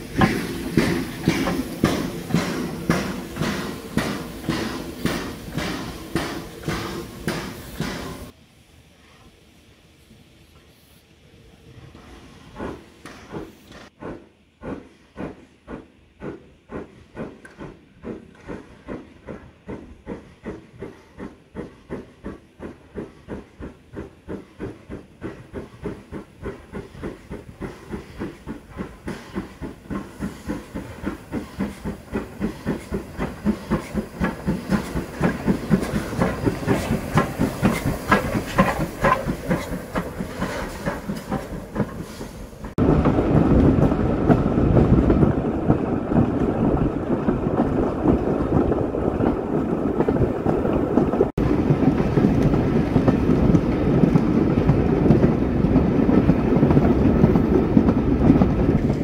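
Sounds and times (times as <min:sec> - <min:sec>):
train rumble and clatter: 0:00.0 - 0:08.4, 0:11.5 - 0:59.0
steam locomotive chuffing: 0:00.0 - 0:59.0.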